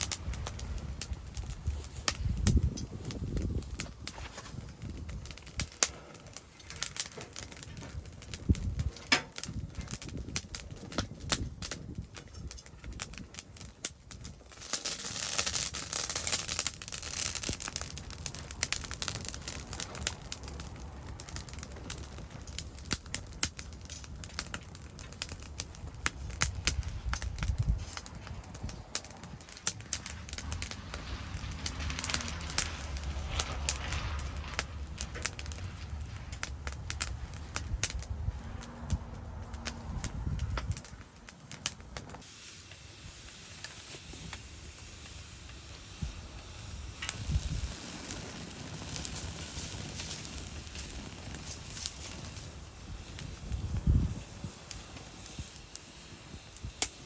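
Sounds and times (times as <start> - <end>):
fire rushing hiss: 0.0 - 57.0
wood fire crackling and popping: 0.0 - 57.0.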